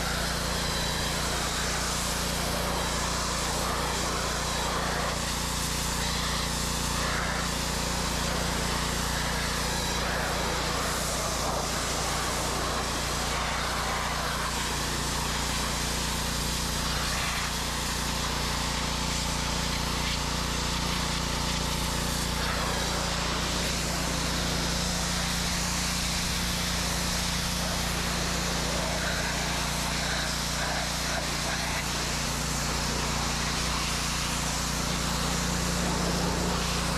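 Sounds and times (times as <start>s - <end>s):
high-pressure water jet hissing: 0.0s - 36.9s
pressure washer engine running: 0.0s - 36.9s.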